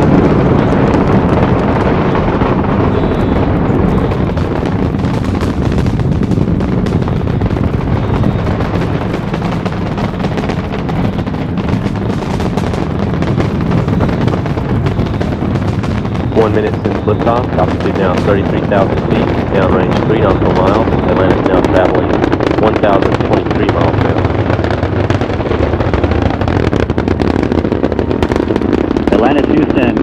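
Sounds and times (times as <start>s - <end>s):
rocket launch roar with crackling: 0.0s - 30.0s.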